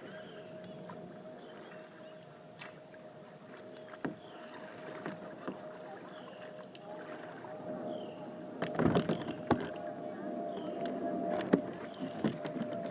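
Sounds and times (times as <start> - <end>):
kayak paddle splashing: 0.0 - 9.9, 10.6 - 12.9
faint steady hum: 0.0 - 12.9.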